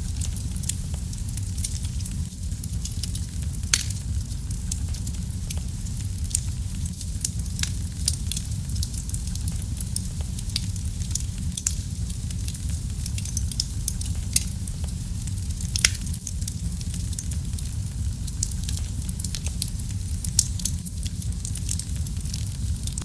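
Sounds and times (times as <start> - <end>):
low rumble of fire flames: 0.0 - 23.0
wood fire crackling and popping: 0.0 - 23.0.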